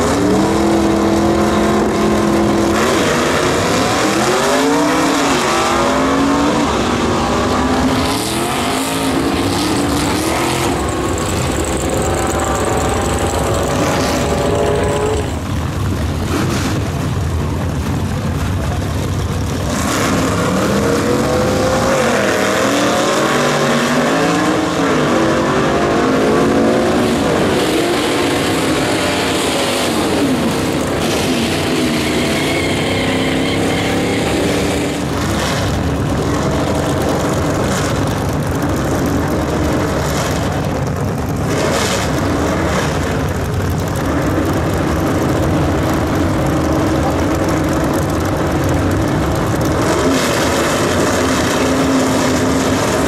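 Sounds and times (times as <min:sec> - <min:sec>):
drag car engines revving: 0:00.0 - 0:53.0.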